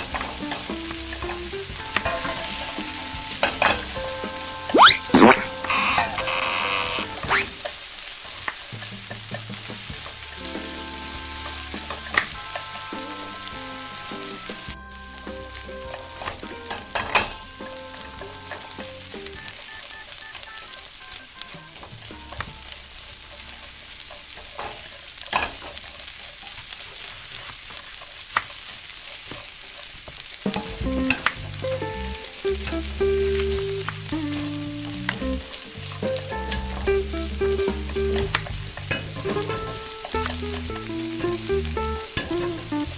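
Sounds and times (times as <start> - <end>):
meat sizzling in oil: 0.0 - 42.9.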